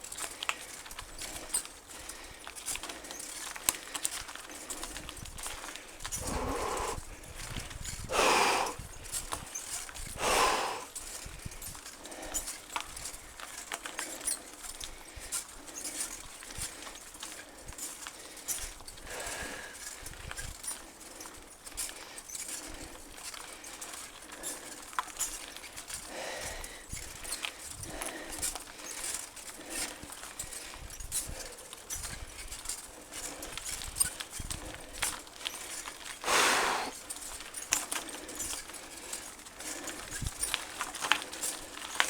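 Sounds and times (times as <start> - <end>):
mountain bike clattering on trail: 0.0 - 42.0.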